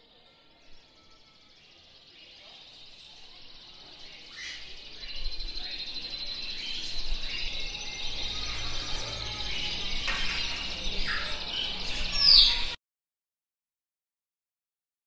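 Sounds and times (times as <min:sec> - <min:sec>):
birds chirping and trilling: 0:00.0 - 0:12.8.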